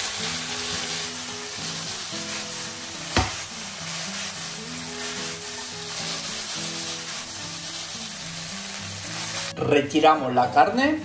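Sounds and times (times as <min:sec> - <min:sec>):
meat sizzling in a pan: 0:00.0 - 0:09.6.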